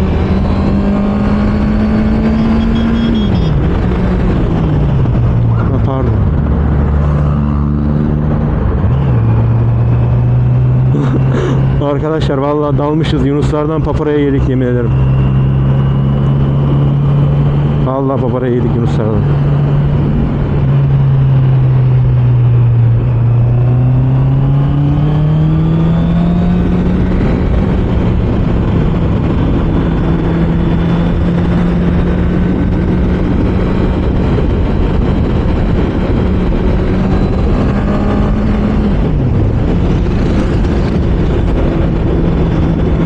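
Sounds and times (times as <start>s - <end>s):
motorcycle engine revving: 0.0s - 11.9s, 14.3s - 43.0s
heavy wind rush: 0.0s - 43.0s.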